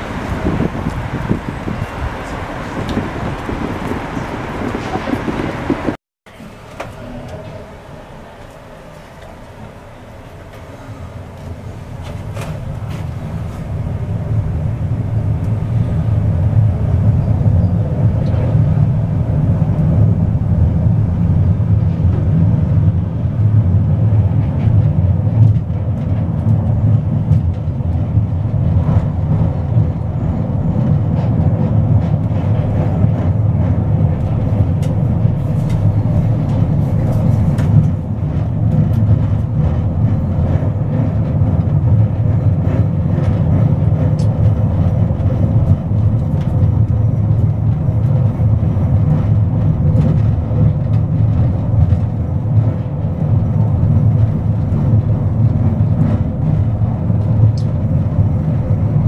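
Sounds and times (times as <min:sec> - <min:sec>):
funicular car rumbling on track: 0:00.0 - 0:59.0.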